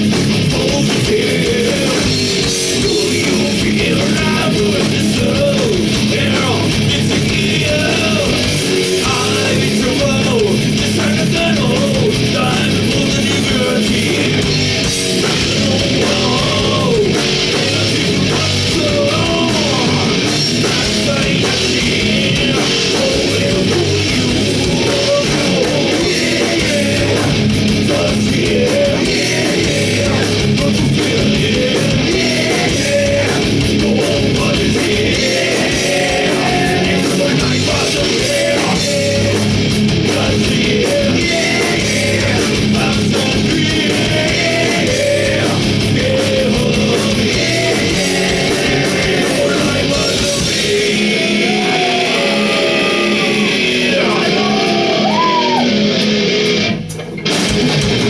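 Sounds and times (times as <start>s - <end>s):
distorted electric guitars: 0.0s - 58.0s
drums: 0.0s - 58.0s.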